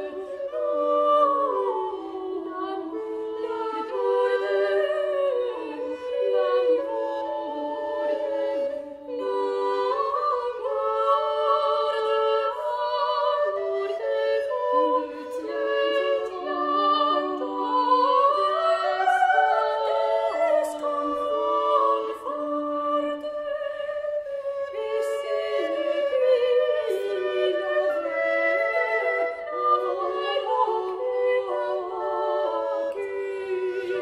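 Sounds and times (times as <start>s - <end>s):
women singing in parts: 0.0s - 34.0s.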